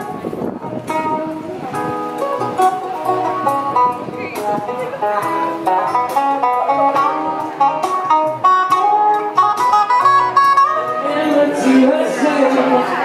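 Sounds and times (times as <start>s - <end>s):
plucked acoustic guitar melody: 0.0s - 13.0s.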